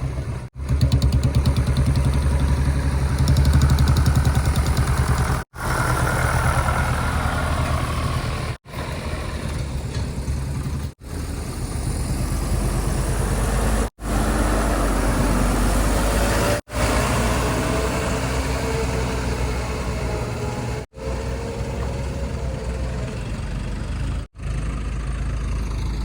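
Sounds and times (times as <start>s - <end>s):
heavy diesel machinery engines: 0.0s - 26.0s.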